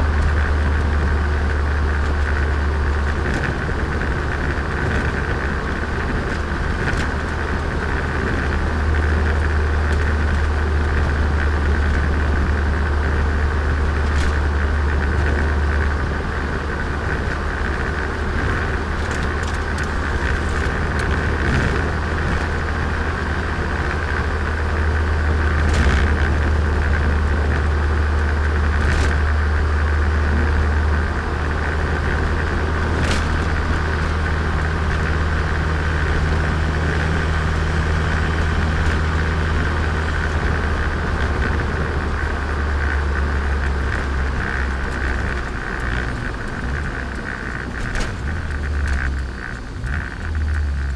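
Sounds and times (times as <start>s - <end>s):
car engine droning: 0.0s - 50.9s.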